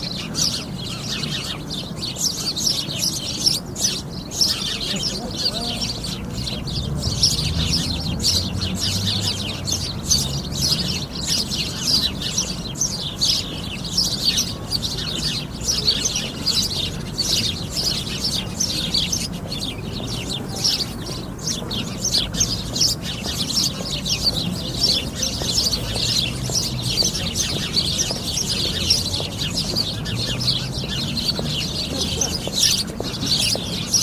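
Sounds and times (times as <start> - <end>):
sparrows chirping: 0.0 - 34.0.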